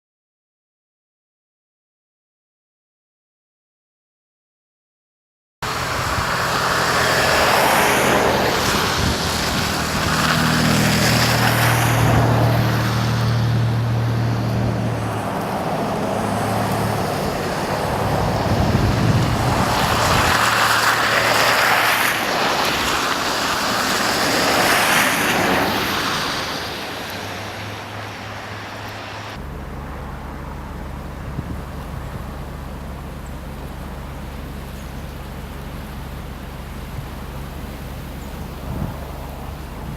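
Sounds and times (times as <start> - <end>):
low engine hum: 5.6 - 39.9
vehicles passing: 5.6 - 39.9.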